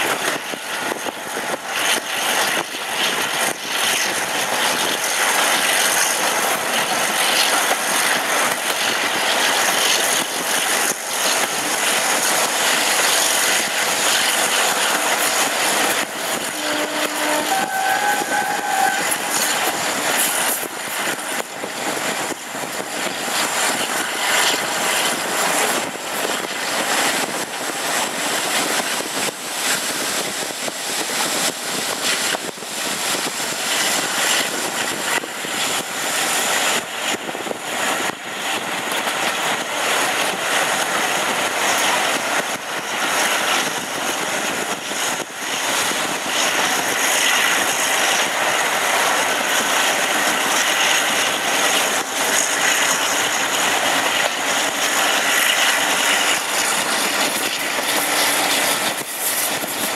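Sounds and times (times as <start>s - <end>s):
diesel locomotive engine drone: 0.0s - 59.9s
train wheel and track noise: 0.0s - 59.9s
wind on microphone: 0.0s - 59.9s.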